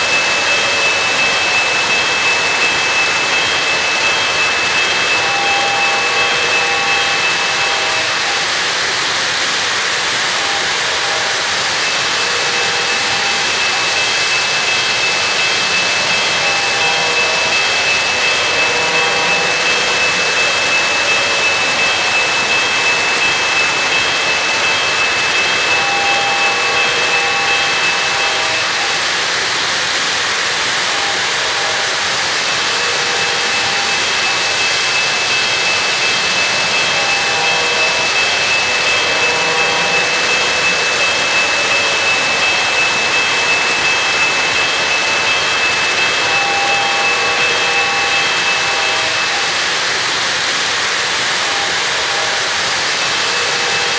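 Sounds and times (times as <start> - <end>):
metal wheels rolling on rails: 0.0 - 53.9
model train motors whirring: 0.0 - 53.9
thin high whine: 0.0 - 53.9.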